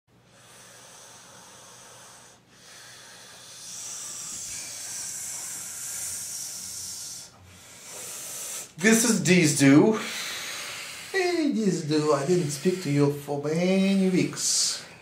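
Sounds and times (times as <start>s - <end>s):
man breathing deeply: 0.2s - 9.2s, 9.8s - 15.0s.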